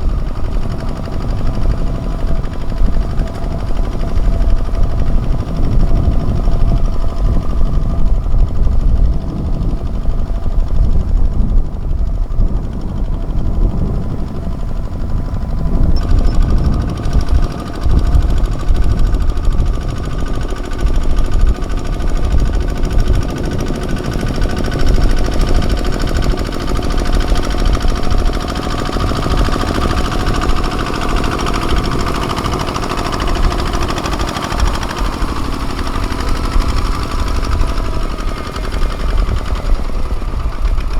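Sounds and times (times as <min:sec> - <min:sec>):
tractor diesel engine chugging: 0:00.0 - 0:40.9.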